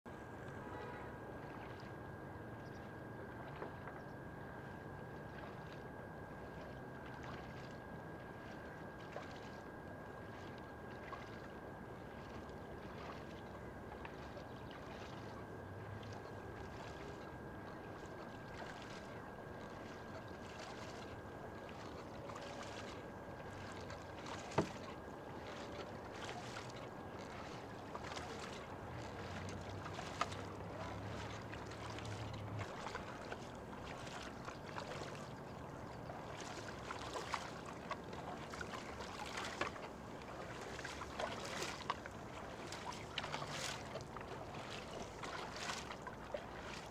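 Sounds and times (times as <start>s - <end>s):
kayak paddle splashes: 0.4s - 46.9s.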